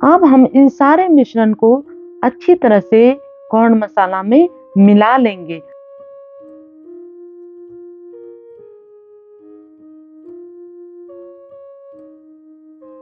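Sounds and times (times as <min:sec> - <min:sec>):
slow keyboard music: 0:00.0 - 0:13.0.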